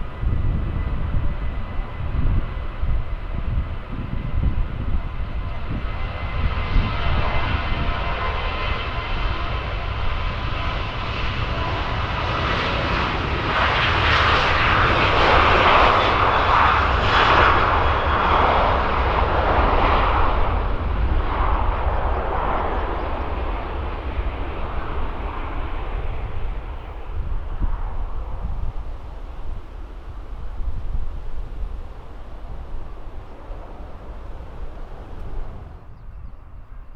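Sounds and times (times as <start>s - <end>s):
aircraft engine roar: 0.0s - 36.9s.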